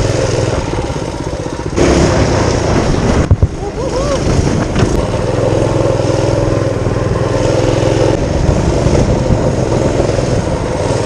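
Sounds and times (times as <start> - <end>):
small engine running roughly: 0.0 - 11.0.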